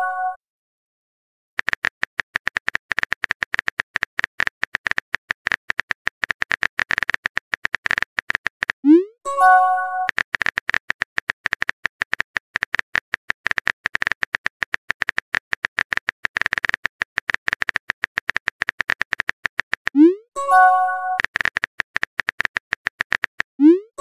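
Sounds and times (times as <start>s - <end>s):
keyboard typing tap-clicks: 1.6s - 8.9s, 10.0s - 23.8s.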